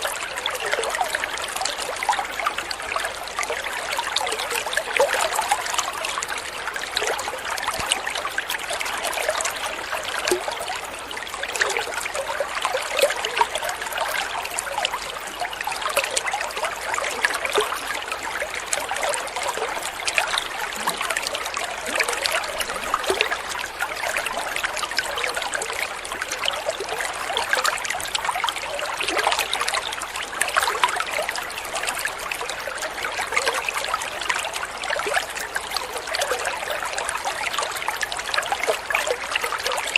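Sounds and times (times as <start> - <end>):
shallow water trickling: 0.0 - 39.9.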